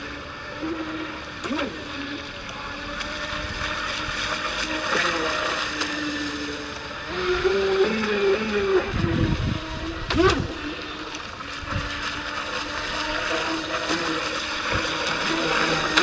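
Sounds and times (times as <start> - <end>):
electric motor and propeller whine: 0.0 - 16.0
steady rushing noise: 2.3 - 16.0.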